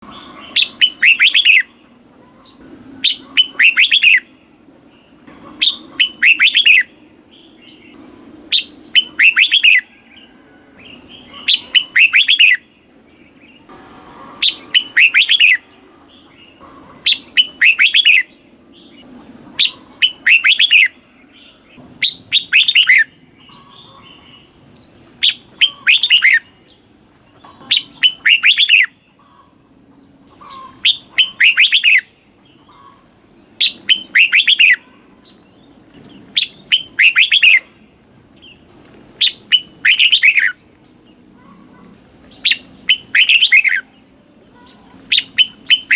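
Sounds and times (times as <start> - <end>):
bird singing warbled phrases: 0.0 - 45.9.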